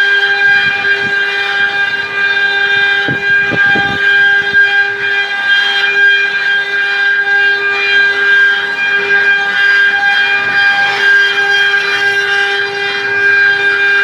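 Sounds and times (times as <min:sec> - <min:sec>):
machine spindle whine: 0:00.0 - 0:14.0.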